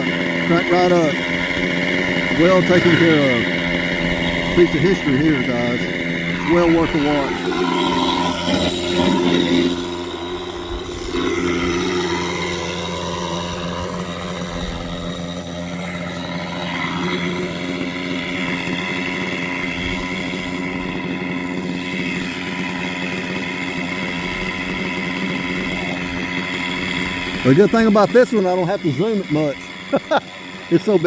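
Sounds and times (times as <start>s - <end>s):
model helicopter engine running: 0.0s - 31.0s.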